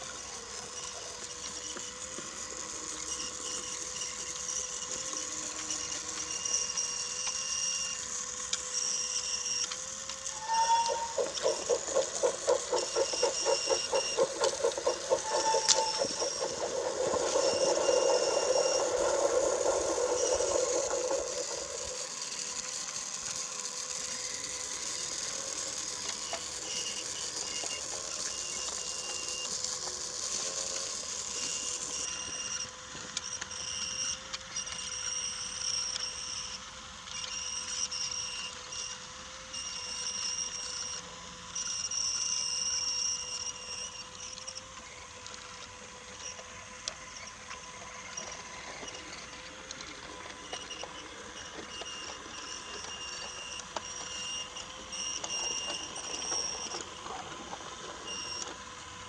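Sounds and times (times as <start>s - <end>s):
toy train wheels clicking: 0.0s - 36.6s, 45.3s - 58.7s
small electric motor humming: 0.0s - 59.0s.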